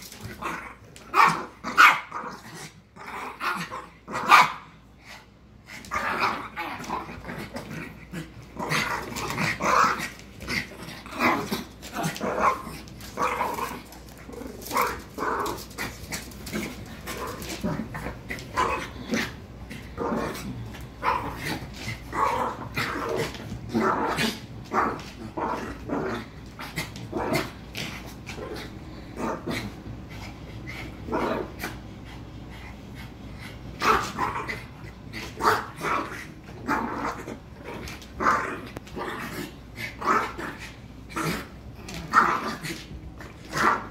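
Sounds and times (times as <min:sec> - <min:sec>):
small dogs growling: 0:05.0 - 0:43.9.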